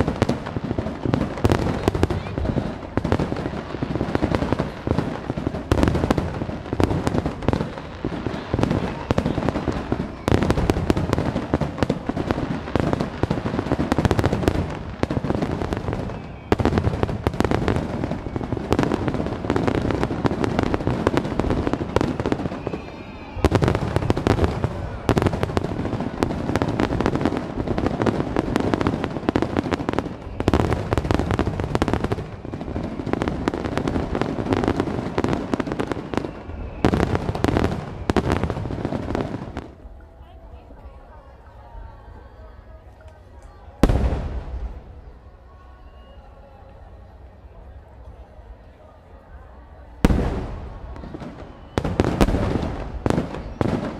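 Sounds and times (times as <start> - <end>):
fireworks bursting and crackling: 0.0 - 40.0, 43.8 - 45.4, 49.9 - 53.9.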